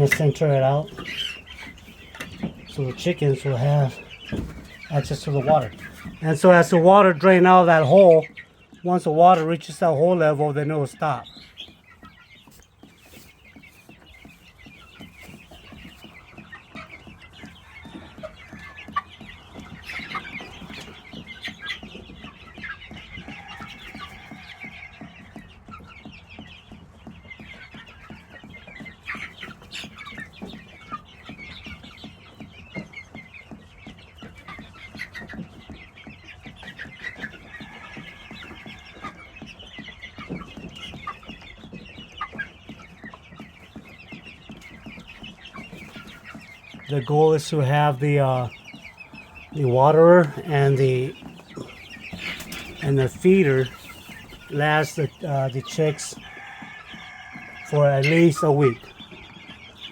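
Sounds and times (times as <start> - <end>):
young chickens clucking: 0.0 - 59.9.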